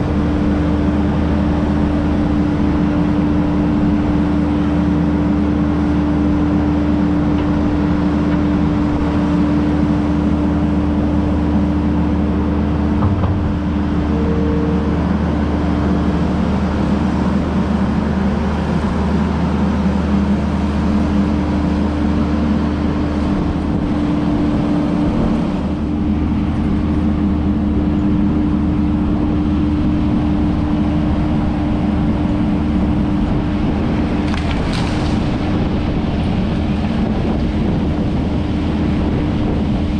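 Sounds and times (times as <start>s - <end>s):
diesel engine droning with whine: 0.0s - 39.9s.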